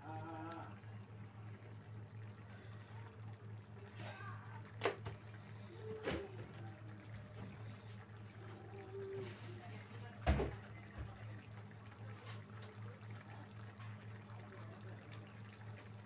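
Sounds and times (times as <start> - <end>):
curry bubbling in a pan: 0.0 - 16.0.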